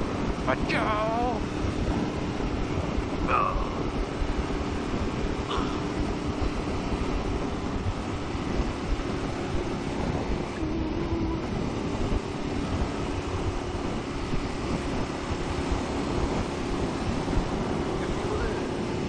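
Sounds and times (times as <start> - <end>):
motorcycle engine cruising: 0.0 - 19.0
wind rushing over microphone: 0.0 - 19.0.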